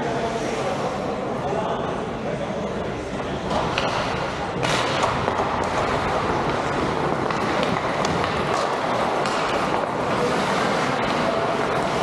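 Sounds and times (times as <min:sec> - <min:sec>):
ice hockey game noise in rink: 0:00.0 - 0:12.0.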